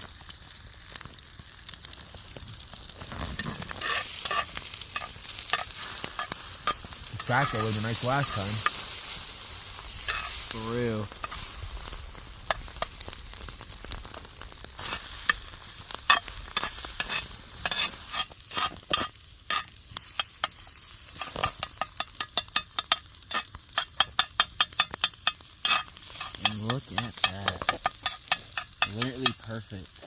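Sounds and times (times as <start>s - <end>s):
eggs sizzling in a pan: 0.0s - 30.0s
sharp pops and crackles: 0.0s - 30.0s.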